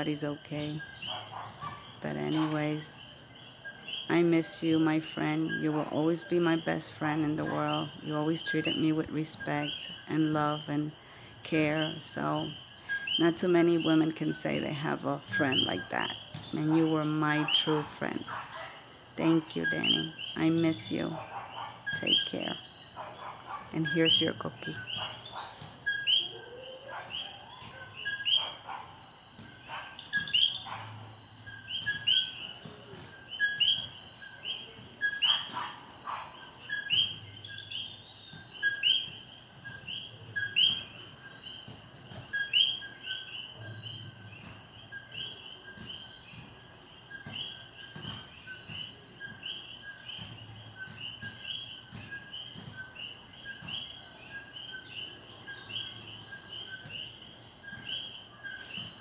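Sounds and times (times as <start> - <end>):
frogs calling: 0.0 - 59.0.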